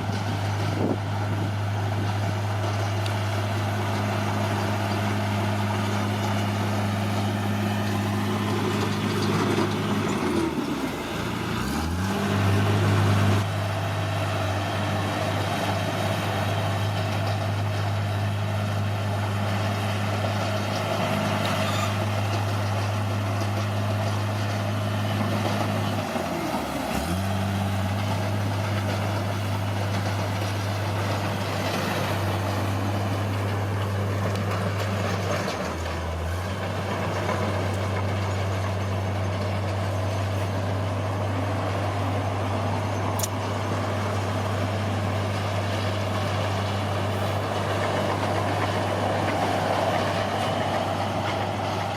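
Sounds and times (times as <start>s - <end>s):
bulldozer diesel engine running: 0.0s - 51.9s.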